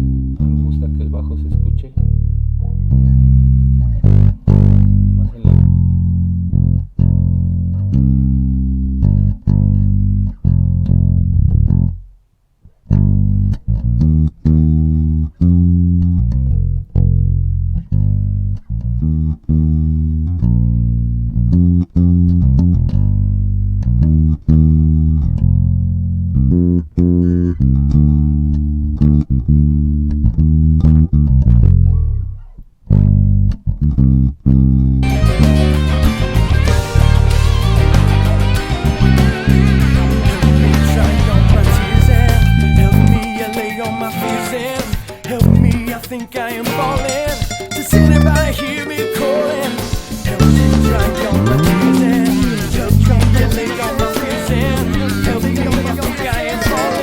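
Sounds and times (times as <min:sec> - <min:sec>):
fuller music with guitar: 0:00.0 - 0:12.1, 0:12.7 - 0:57.0
plucked bass guitar notes: 0:00.0 - 0:57.0.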